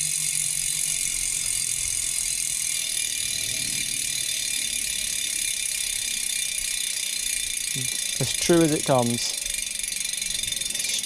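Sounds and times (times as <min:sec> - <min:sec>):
bike freehub ratcheting buzz: 0:00.0 - 0:11.0.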